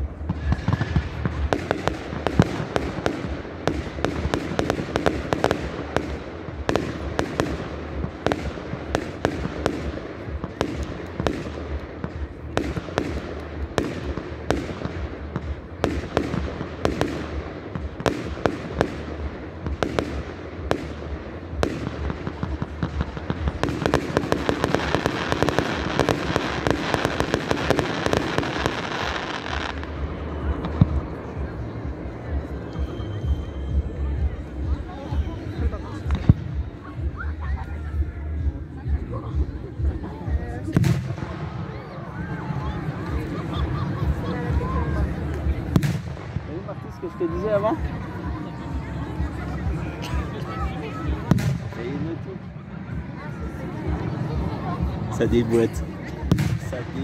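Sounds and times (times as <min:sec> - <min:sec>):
fireworks bursting with sharp bangs: 0:00.0 - 0:57.0.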